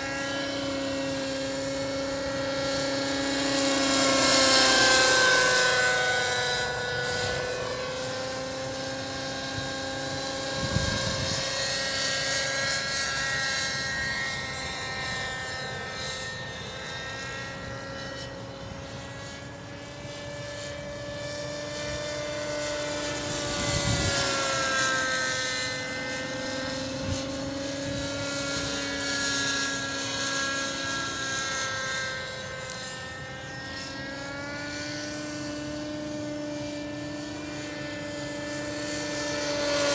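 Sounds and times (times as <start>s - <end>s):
model helicopter engine and rotors: 0.0s - 39.9s.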